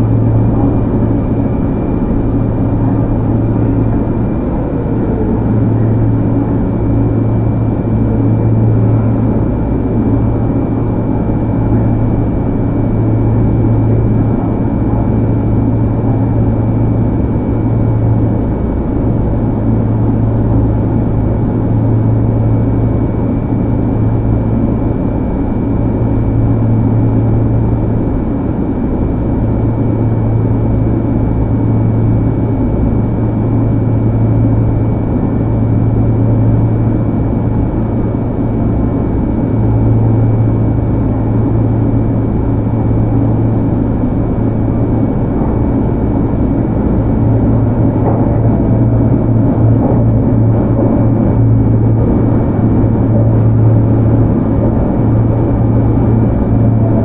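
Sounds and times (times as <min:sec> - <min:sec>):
low hum: 0:00.0 - 0:57.0
train wheels rumbling on rail: 0:00.0 - 0:57.0.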